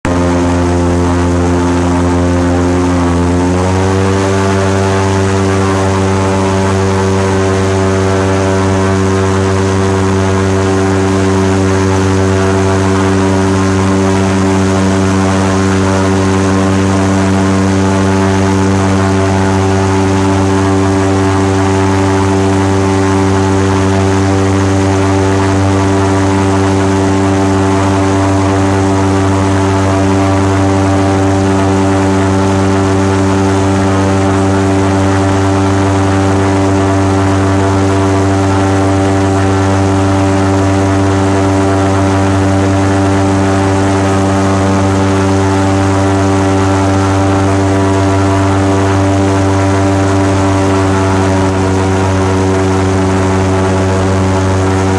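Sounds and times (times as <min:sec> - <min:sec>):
airboat engine and propeller drone: 0:00.0 - 0:54.9.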